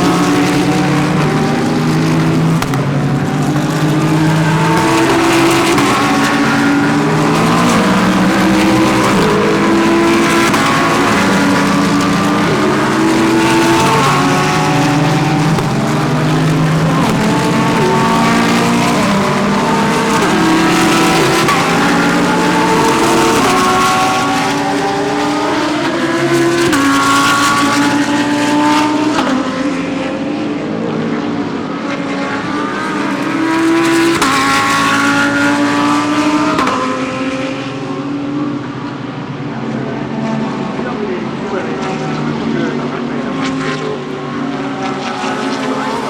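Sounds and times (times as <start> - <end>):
race car engines at full throttle: 0.0 - 46.0.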